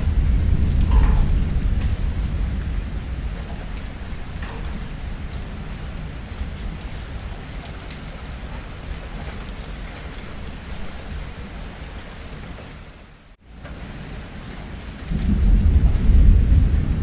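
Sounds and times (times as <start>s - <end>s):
distant thunder rumble: 0.0s - 12.4s, 13.7s - 17.0s
heavy rain falling: 0.0s - 17.0s.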